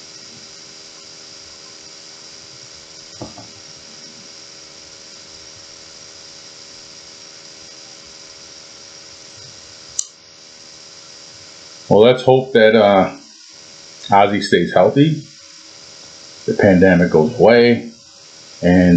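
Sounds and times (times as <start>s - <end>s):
background hiss: 0.0s - 18.9s
faint hum: 0.0s - 18.9s.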